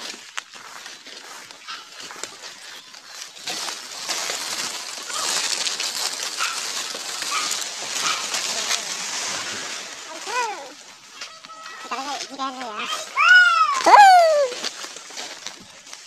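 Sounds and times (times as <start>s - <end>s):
dry leaves rustling and crunching: 0.0s - 16.0s.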